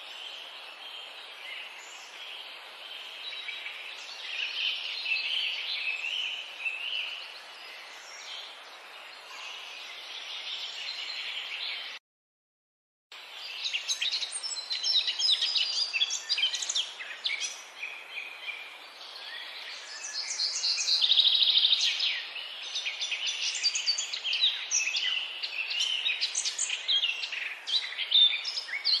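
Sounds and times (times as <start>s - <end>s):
songbirds chirping and singing: 0.0s - 12.0s, 13.2s - 29.0s.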